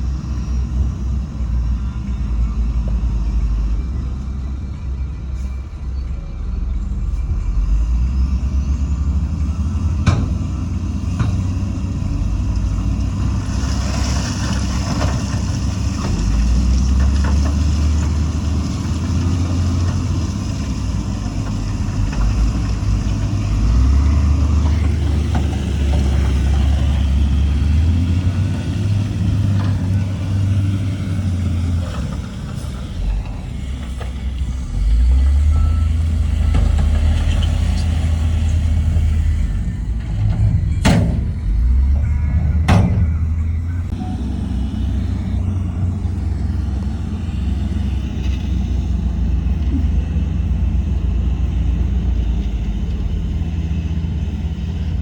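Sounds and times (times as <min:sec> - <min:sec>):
heavy diesel engines rumbling: 0:00.0 - 0:55.0.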